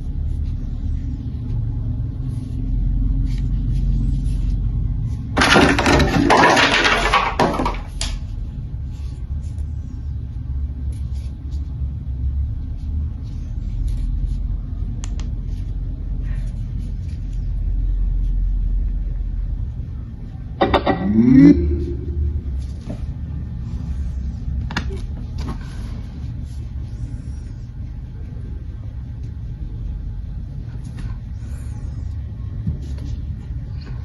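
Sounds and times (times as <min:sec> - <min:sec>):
steady low rumble: 0:00.0 - 0:05.4, 0:08.2 - 0:33.9.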